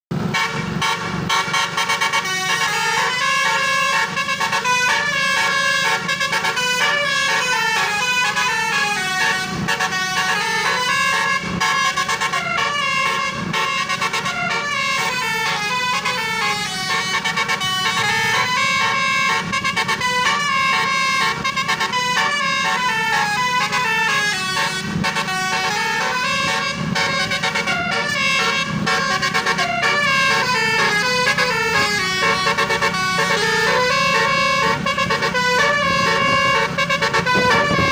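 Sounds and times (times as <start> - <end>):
bus horn playing quick melody: 0.1 - 37.9.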